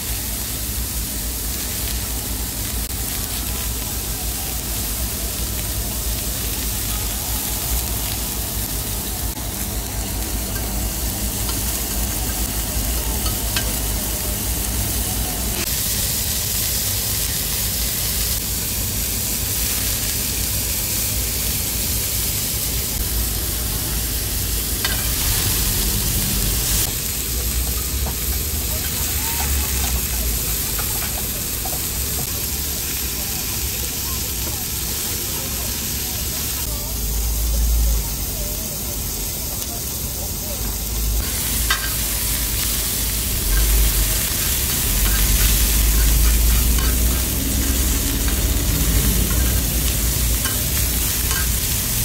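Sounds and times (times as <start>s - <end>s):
meat sizzling on a grill: 0.0s - 52.0s.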